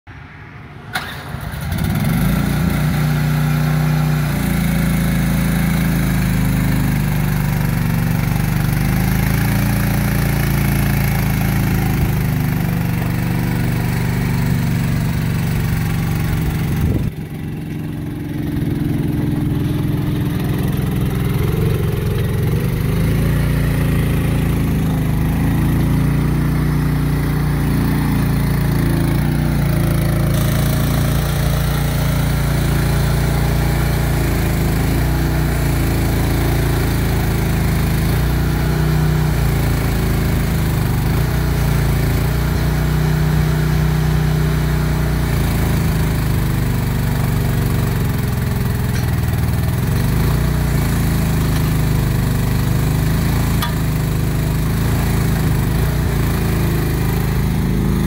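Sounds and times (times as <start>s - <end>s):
small gasoline engine running: 1.0s - 58.0s.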